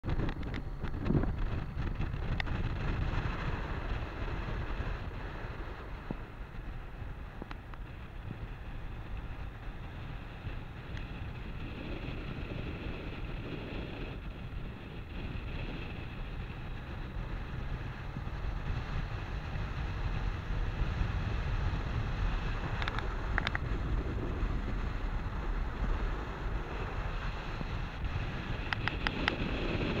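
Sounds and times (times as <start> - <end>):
engine and road rumble: 0.0 - 30.0
wind rushing over microphone: 0.0 - 30.0.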